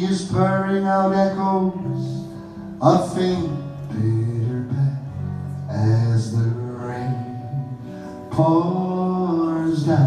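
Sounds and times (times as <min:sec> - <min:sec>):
acoustic guitar: 0:00.0 - 0:10.0
man singing: 0:00.0 - 0:10.0.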